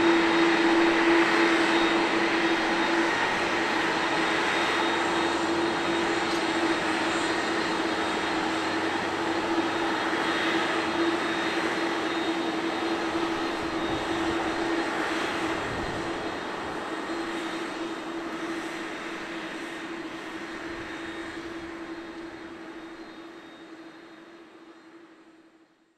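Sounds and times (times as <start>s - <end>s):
jet engines roaring at idle: 0.0s - 25.9s.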